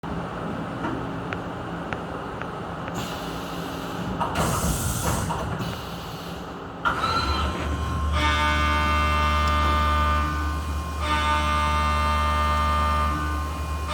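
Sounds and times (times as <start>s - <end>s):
machine mechanical hum: 0.0s - 13.9s.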